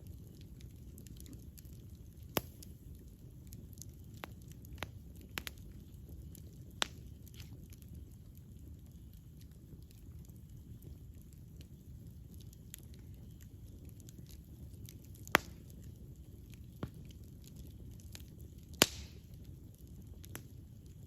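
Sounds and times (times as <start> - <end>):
campfire rumbling: 0.0 - 21.0
faint fire crackles: 0.0 - 21.0
loud pops of burning wood: 0.0 - 21.0.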